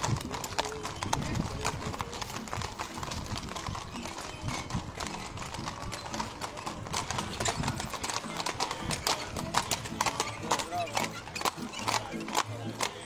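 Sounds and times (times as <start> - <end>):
horse hooves clip-clopping on asphalt: 0.0 - 13.0.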